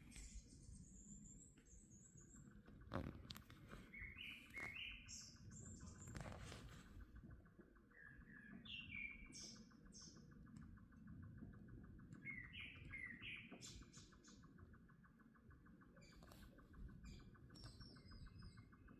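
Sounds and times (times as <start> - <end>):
birds chirping: 0.0 - 18.9
faint fast ticking hum: 0.0 - 18.9.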